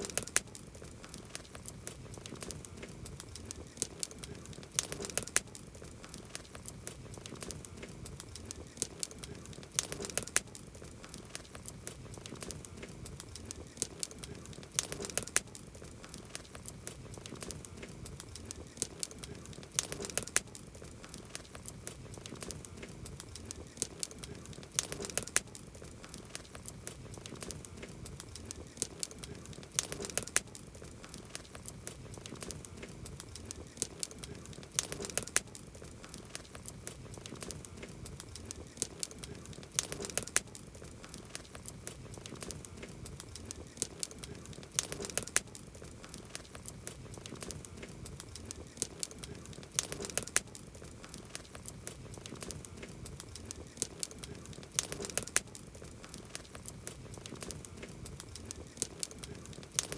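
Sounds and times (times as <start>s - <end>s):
campfire crackling and popping: 0.0s - 59.9s
low fire hiss: 0.0s - 59.9s.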